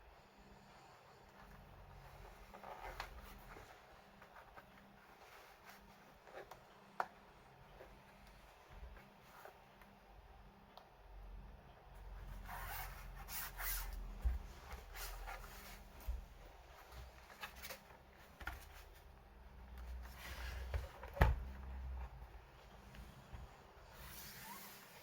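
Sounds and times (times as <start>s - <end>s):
low steady hum: 0.0s - 25.0s
handling rubbing and rustling: 1.1s - 10.2s, 12.0s - 25.0s.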